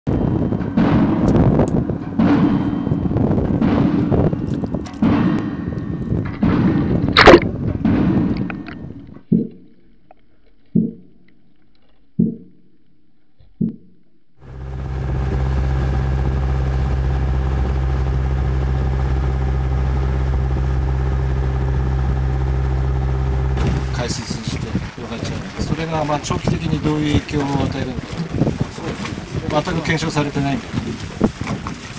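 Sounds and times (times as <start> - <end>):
boat engine humming: 0.0 - 9.8, 14.4 - 31.9
underwater pile-driving strikes: 0.1 - 9.6, 14.4 - 31.9.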